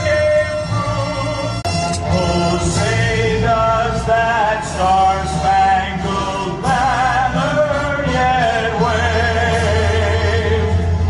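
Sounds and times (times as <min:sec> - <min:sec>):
low musical accompaniment: 0:00.0 - 0:11.0.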